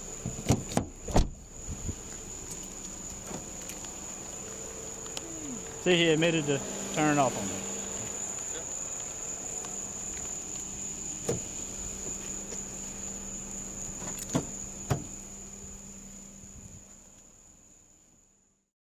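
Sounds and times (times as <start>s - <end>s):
crickets trilling: 0.0s - 18.5s.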